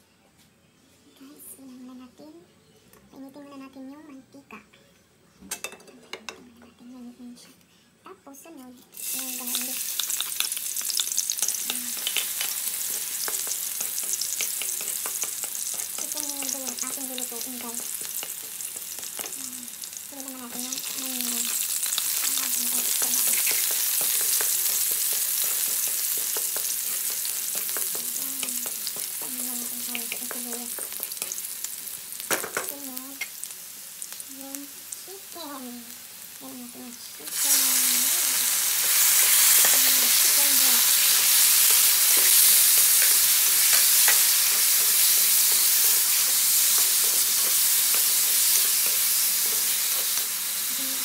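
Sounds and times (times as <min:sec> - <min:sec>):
onions sizzling in hot oil: 0:09.0 - 0:51.0.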